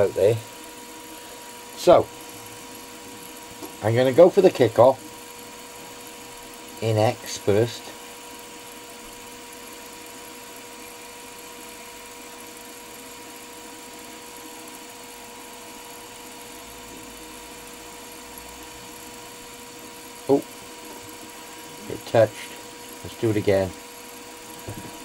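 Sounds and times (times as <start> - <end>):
milling machine spindle whining: 0.0 - 25.0.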